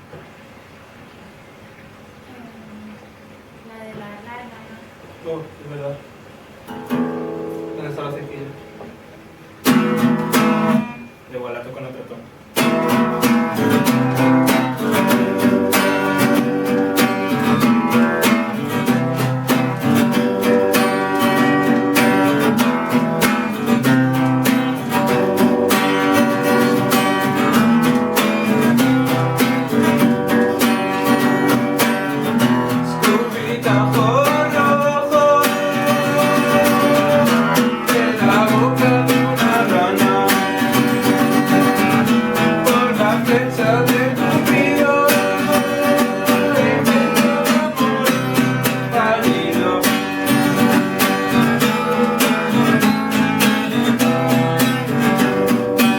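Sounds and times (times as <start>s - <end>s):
acoustic guitar strumming: 6.3s - 11.4s, 12.4s - 55.9s.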